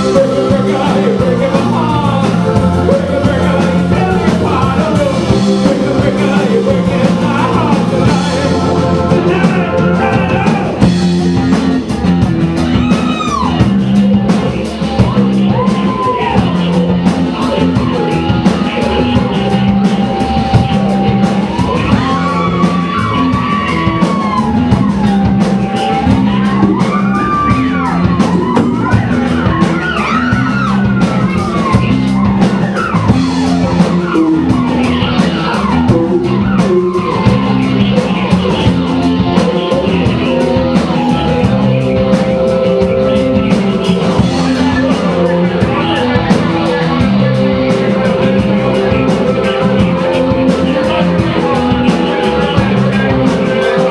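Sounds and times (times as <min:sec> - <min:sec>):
rock band playing: 0:00.0 - 0:53.9
sliding bending lead guitar line: 0:00.0 - 0:53.9.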